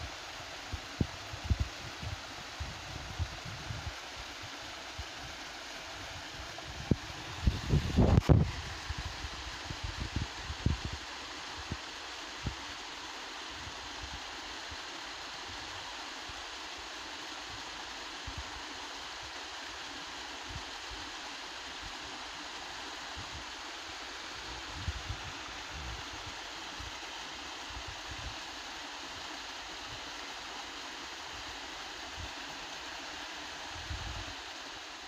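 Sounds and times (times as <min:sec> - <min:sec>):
waterfall rushing into pool: 0:00.0 - 0:35.0.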